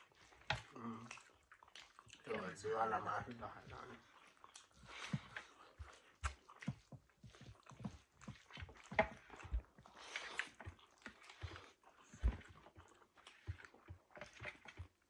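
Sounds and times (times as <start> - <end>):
chewing and mouth smacks: 0.0 - 15.0.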